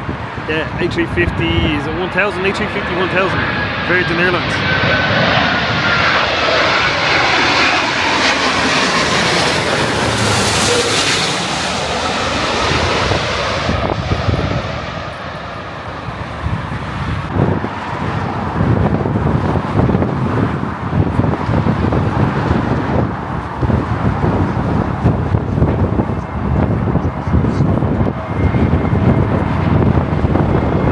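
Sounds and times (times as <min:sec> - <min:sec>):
jet engine passing overhead: 0:00.0 - 0:30.9
wind buffeting microphone: 0:00.0 - 0:30.9.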